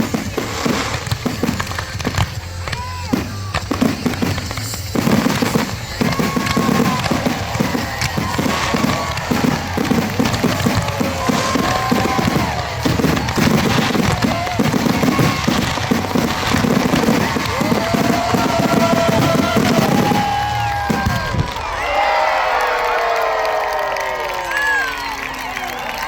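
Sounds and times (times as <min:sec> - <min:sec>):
fireworks booming: 0:00.0 - 0:21.8
fireworks whistling: 0:00.0 - 0:21.9.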